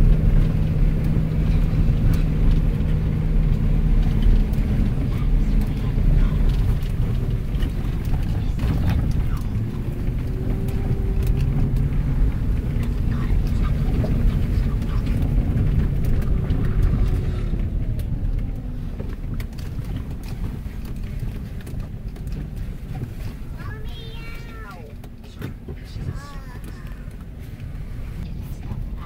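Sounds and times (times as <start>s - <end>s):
engine and tyre rumble: 0.0s - 29.0s.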